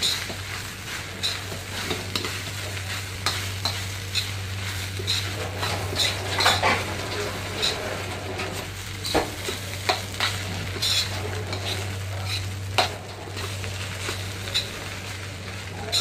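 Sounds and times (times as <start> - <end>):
metal spoon scraping a wok: 0.0 - 15.2
rice sizzling in a wok: 0.0 - 16.0.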